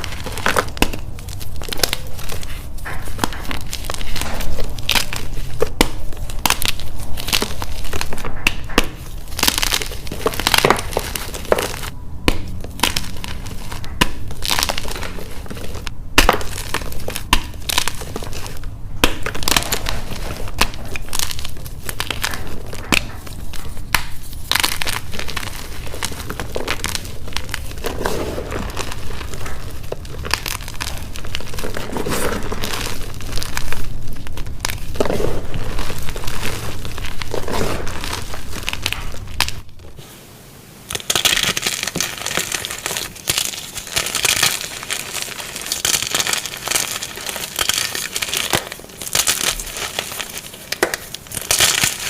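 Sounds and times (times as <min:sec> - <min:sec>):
chalk crunching and crumbling: 0:00.0 - 0:40.2, 0:40.9 - 0:52.0.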